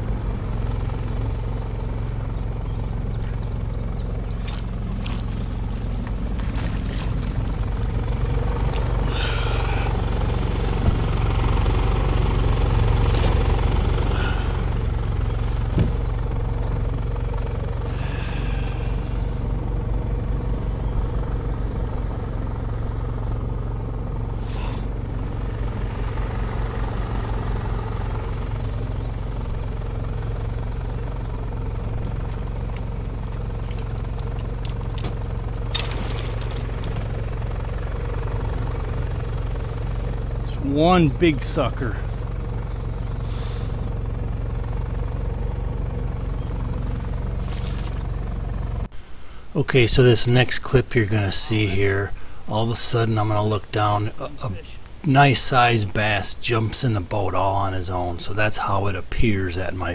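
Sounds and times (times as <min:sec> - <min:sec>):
generator and outboard motor drone: 0:00.0 - 0:59.9.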